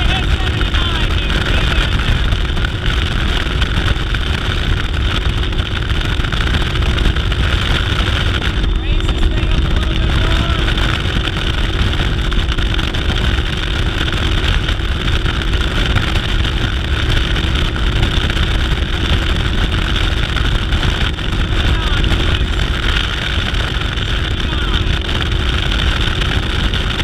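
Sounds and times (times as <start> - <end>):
outboard engine at high speed: 0.0 - 27.0
wind rumble on microphone: 0.0 - 27.0.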